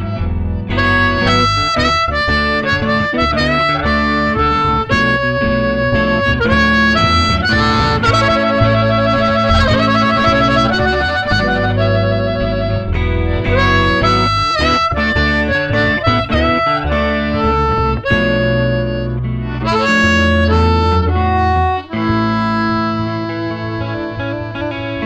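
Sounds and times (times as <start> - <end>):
bass guitar: 0.0 - 25.0
blues harmonica melody: 0.0 - 25.0
guitar: 0.0 - 25.0.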